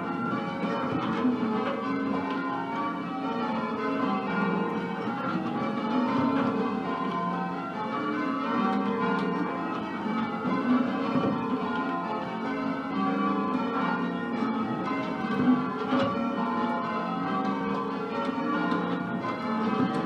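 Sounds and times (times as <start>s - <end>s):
church bells change ringing: 0.0s - 20.0s.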